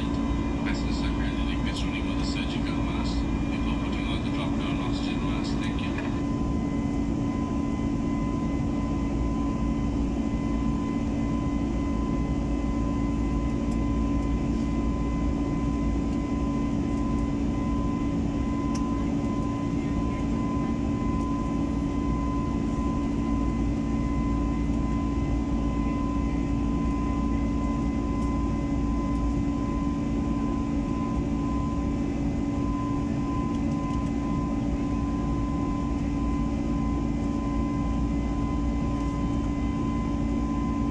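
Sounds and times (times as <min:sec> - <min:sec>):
jet airliner cabin drone: 0:00.0 - 0:40.9.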